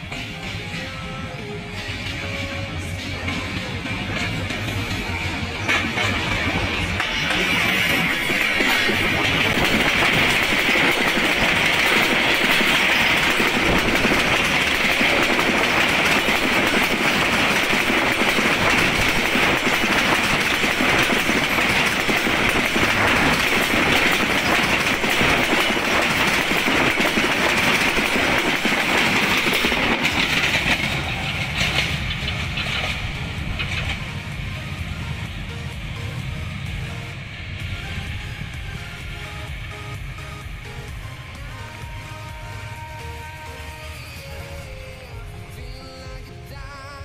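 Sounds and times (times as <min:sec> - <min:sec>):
train wheels clattering on rails: 0:00.0 - 0:46.2.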